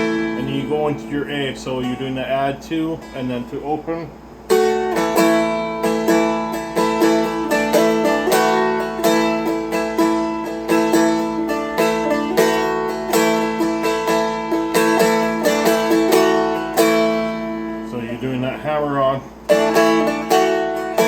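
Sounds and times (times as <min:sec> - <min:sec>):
picked string instrument melody: 0:00.0 - 0:03.3, 0:04.4 - 0:21.0.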